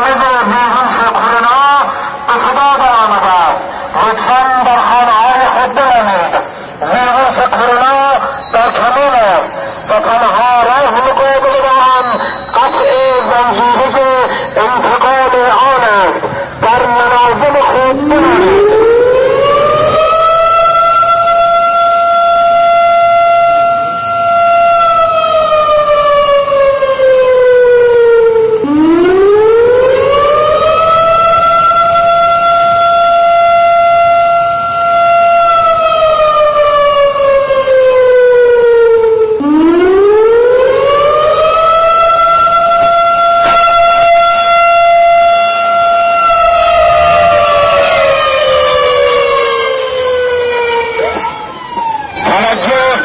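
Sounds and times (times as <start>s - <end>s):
civil defence siren wailing: 0.0s - 53.0s.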